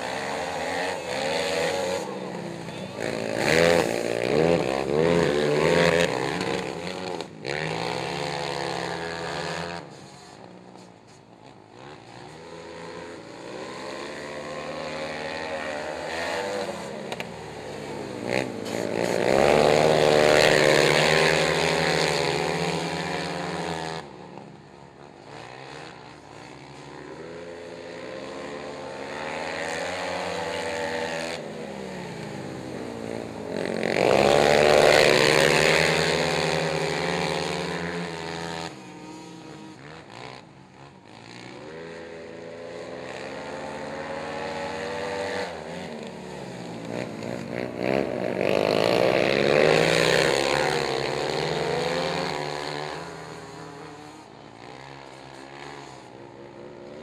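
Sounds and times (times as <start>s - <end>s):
quad bike engines revving: 0.0s - 57.0s.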